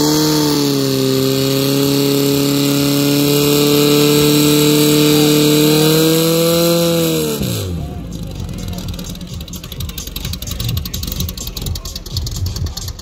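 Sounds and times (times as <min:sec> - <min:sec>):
pump engine at high revs: 0:00.0 - 0:13.0.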